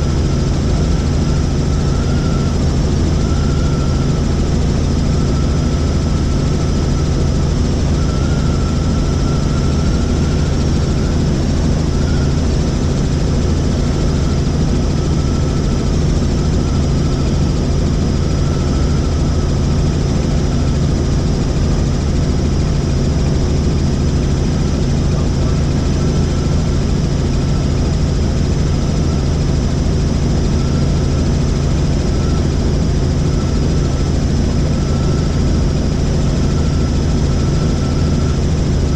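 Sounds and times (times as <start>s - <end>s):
helicopter engine and rotor drone: 0.0s - 38.9s.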